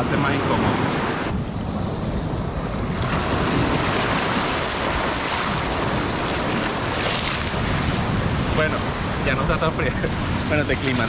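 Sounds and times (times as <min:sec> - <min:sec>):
wind buffeting microphone: 0:00.0 - 0:11.0
sea waves breaking on shore: 0:00.1 - 0:11.0.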